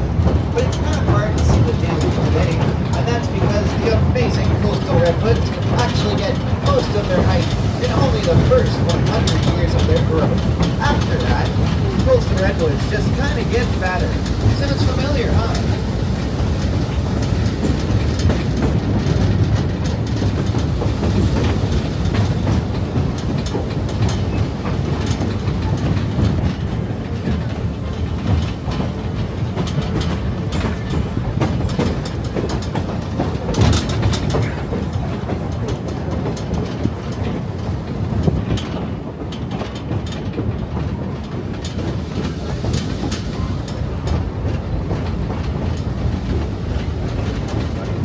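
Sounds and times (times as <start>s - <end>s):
train wheels rumbling on rails: 0.0s - 48.0s
wheels clacking over rail joints: 0.0s - 48.0s.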